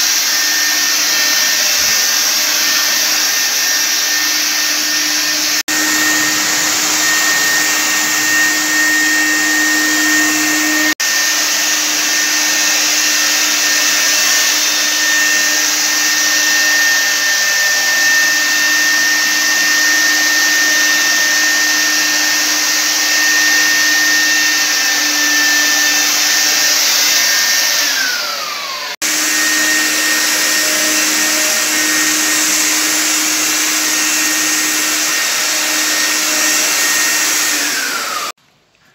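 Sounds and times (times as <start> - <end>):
fogger blower motor whining: 0.0 - 38.4.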